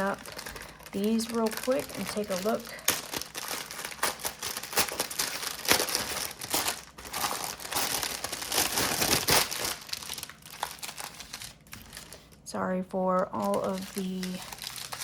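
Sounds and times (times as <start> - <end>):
plastic packaging crinkling: 0.0 - 12.5, 13.2 - 15.0.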